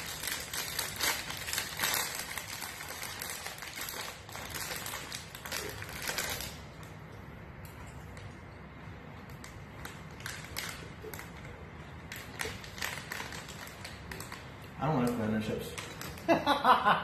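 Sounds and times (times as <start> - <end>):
plastic snack bag crinkling: 0.0 - 7.0, 9.1 - 16.4.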